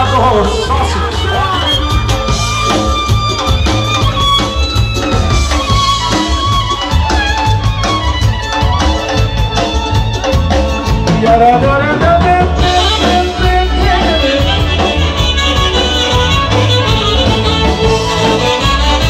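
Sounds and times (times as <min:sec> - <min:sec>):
folk band lead melody: 0:00.0 - 0:19.0
steady drum beat: 0:00.0 - 0:19.0.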